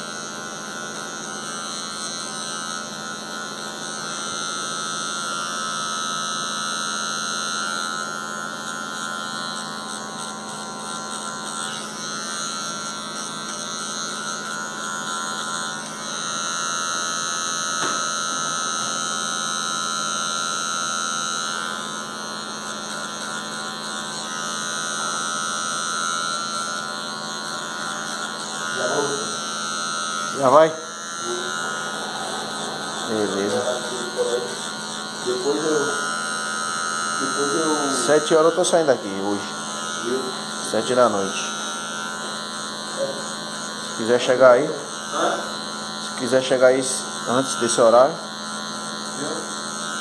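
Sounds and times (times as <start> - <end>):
electric hair clippers humming: 0.0 - 50.0.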